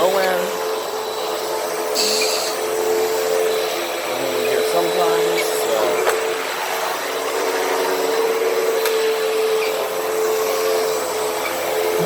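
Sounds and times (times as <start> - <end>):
vacuum cleaner on carpet: 0.0 - 12.0.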